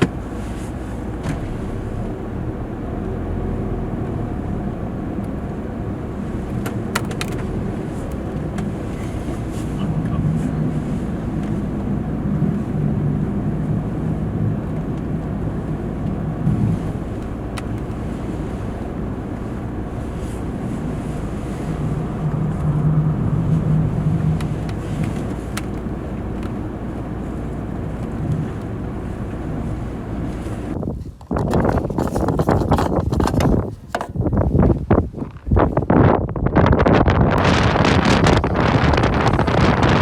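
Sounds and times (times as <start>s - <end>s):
road hum: 0.0s - 40.0s
van engine: 0.0s - 40.0s.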